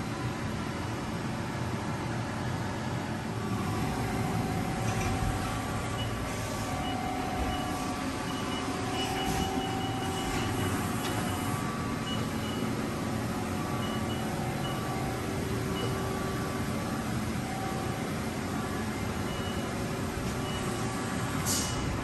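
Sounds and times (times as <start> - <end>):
machinery hum and rumble: 0.0 - 22.0
faint whining tones: 3.4 - 21.3.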